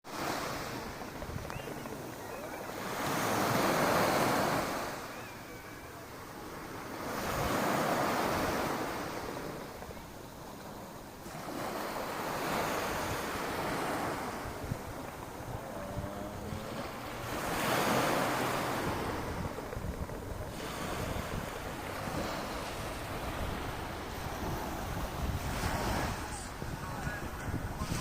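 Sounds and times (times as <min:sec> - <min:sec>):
sea waves breaking on shore: 0:00.1 - 0:28.0.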